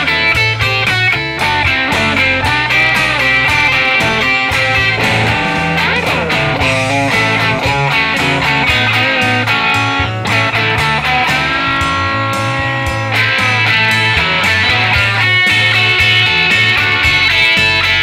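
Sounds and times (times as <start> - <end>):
electric guitar playing: 0.0 - 18.0.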